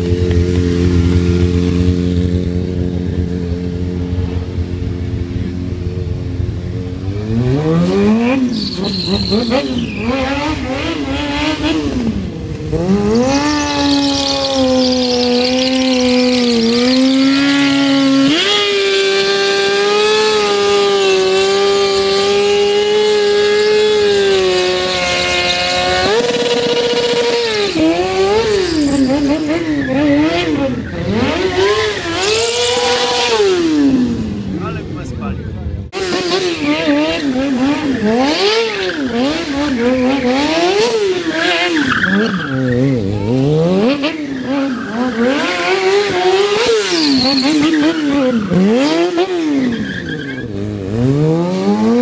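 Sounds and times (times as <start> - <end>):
motorcycle engine revving: 0.0 - 52.0
tyres skidding on paving: 7.0 - 52.0.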